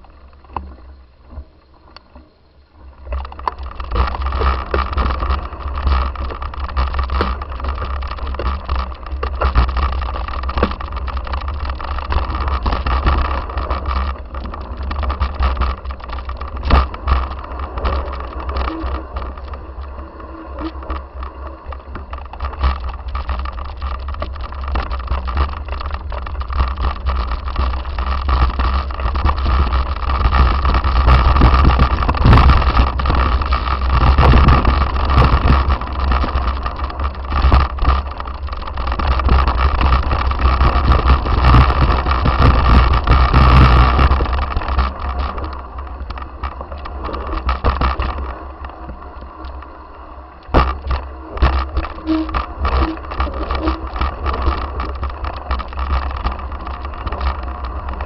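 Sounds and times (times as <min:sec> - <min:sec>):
wind rumble on microphone: 0:00.0 - 0:58.0
knocks and rattles: 0:03.1 - 0:48.4, 0:50.5 - 0:58.0.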